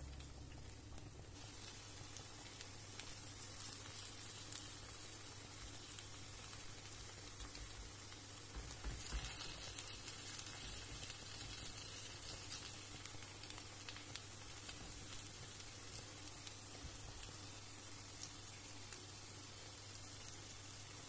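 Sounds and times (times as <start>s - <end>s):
fritters sizzling in oil: 0.0s - 21.0s.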